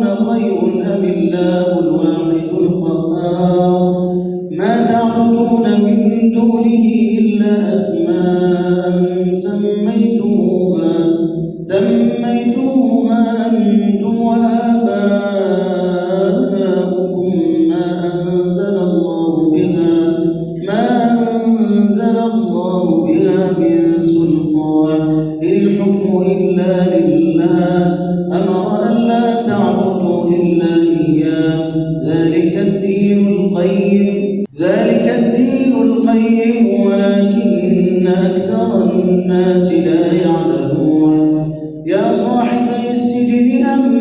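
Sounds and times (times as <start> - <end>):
man chanting melodically: 0.0 - 44.0.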